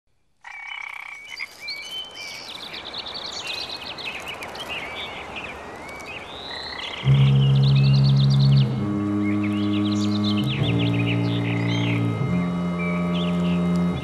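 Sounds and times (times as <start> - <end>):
frogs croaking: 0.2 - 14.0.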